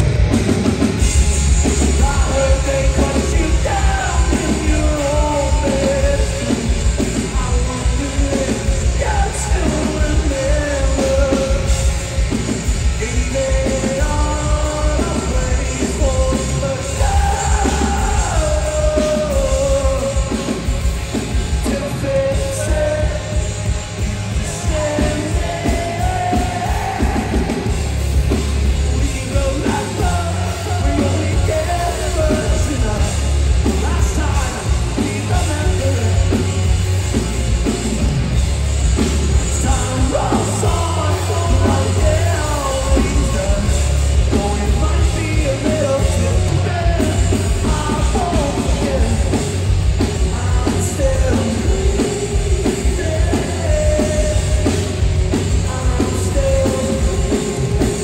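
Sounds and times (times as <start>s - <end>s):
bass guitar: 0.0s - 58.0s
distorted electric guitars: 0.0s - 58.0s
drum kit: 0.0s - 58.0s
man singing and yelling: 1.5s - 37.3s, 39.4s - 58.0s.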